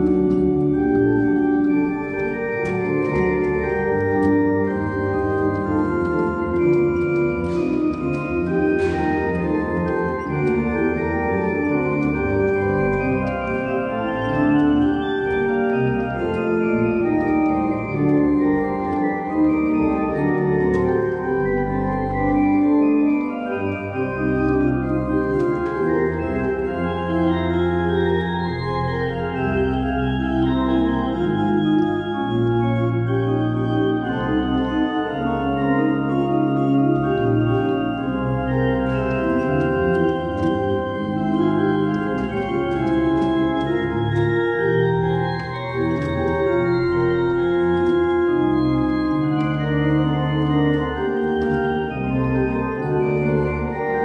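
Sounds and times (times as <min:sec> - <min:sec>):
pipe organ playing: 0:00.0 - 0:54.0.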